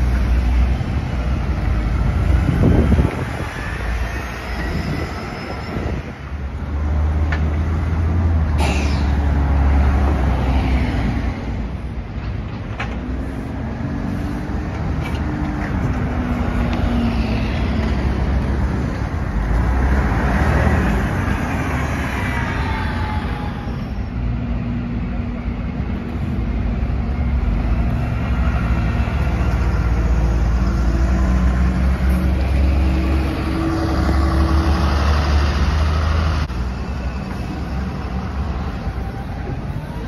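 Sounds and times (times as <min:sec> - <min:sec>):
bus engines rumbling: 0:00.0 - 0:40.0
street traffic: 0:00.0 - 0:40.0.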